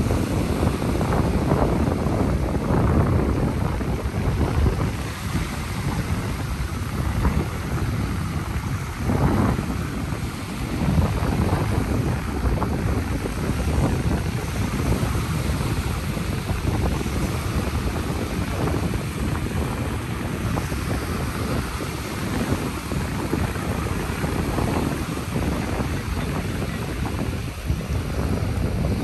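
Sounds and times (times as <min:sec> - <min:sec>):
ocean surf washing onto beach: 0:00.0 - 0:29.0
wind on microphone: 0:00.0 - 0:29.0.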